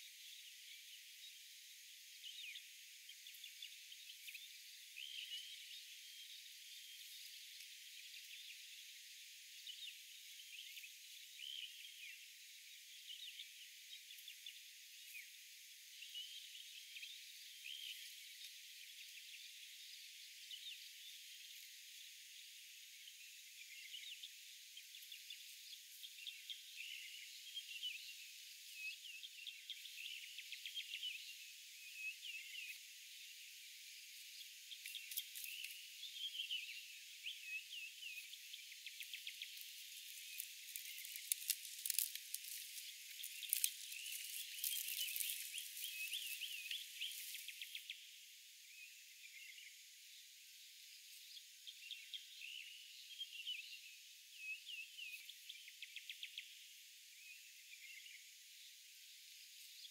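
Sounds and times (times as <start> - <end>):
high insect hiss: 0.0 - 59.9
small birds chirping: 0.0 - 59.9.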